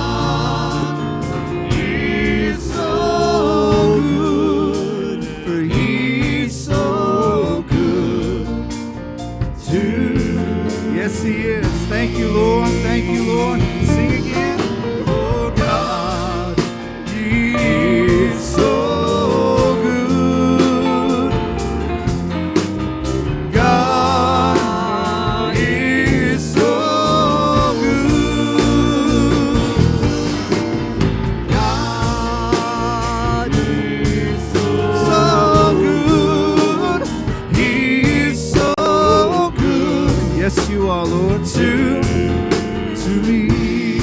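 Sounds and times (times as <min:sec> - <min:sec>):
voices singing: 0:00.0 - 0:44.0
worship band playing: 0:00.0 - 0:44.0.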